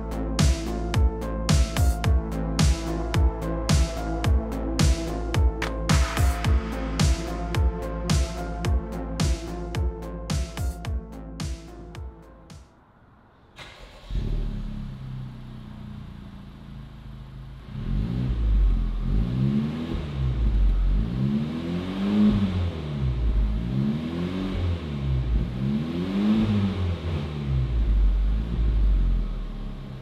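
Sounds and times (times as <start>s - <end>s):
car engine revving: 0.0s - 12.1s, 13.4s - 30.0s
car engine starting and idling: 0.0s - 30.0s.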